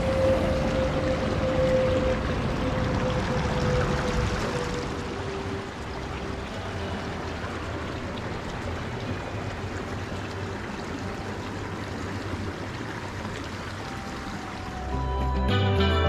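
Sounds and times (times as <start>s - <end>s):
creek flowing over stones: 0.0s - 15.5s.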